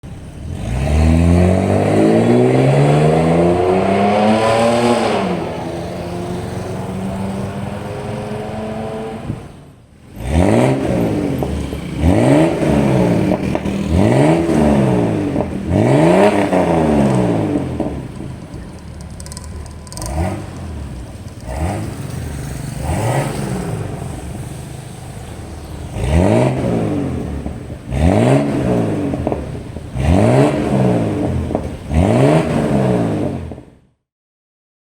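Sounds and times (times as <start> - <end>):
car engine revving: 0.1 - 33.7.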